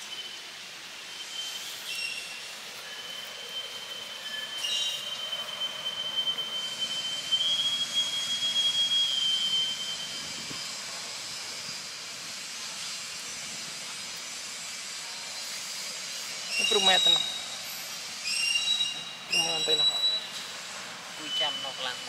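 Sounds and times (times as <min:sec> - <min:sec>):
hiss: 0:00.0 - 0:22.0
insects droning: 0:00.0 - 0:22.0.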